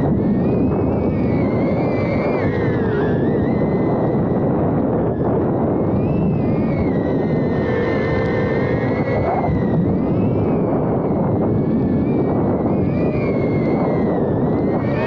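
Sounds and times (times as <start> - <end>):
wind rumble on microphone: 0.0 - 15.0
drone motors whining: 0.1 - 15.0.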